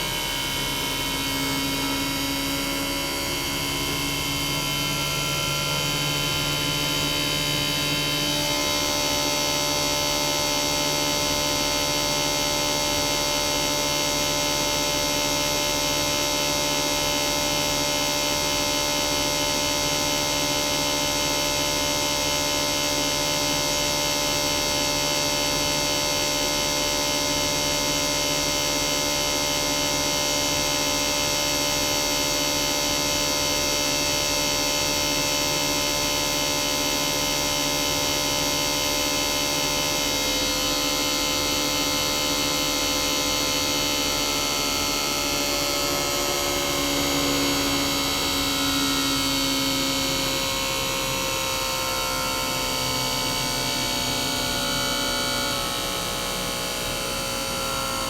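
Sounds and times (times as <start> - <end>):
compressor electric hum and whine: 0.0 - 58.0.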